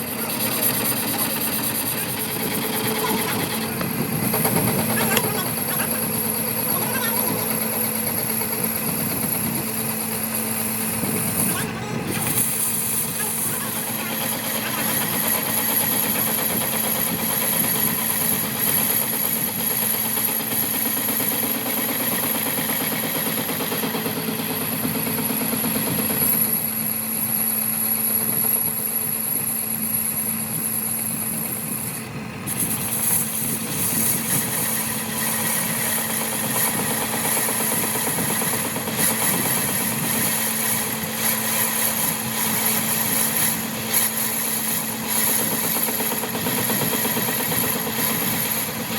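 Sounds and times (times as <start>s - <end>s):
workshop machine humming and whining: 0.0s - 48.9s.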